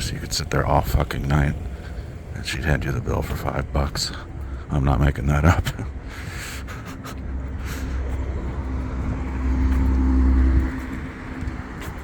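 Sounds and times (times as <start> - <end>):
vehicle engine rumble passing by: 0.0 - 12.0.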